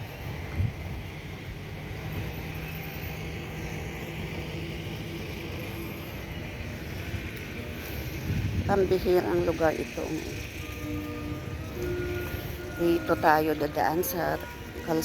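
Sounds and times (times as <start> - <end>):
low vehicle hum: 0.0 - 15.0
road noise: 0.0 - 15.0.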